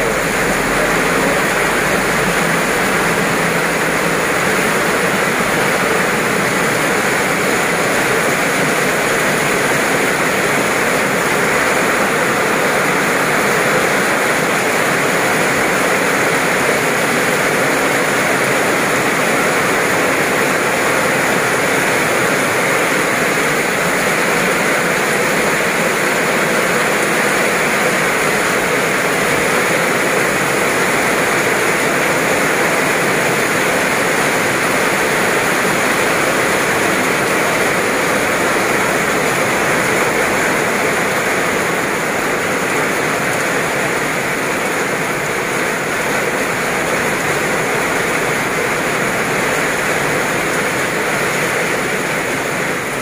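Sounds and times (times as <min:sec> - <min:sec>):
heavy rain on paving and leaves: 0:00.0 - 0:53.0.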